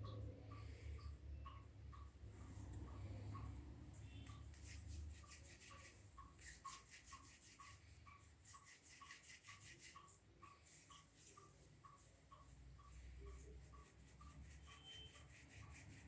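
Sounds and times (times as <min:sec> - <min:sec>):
hands rolling soft dough: 0:00.0 - 0:16.0.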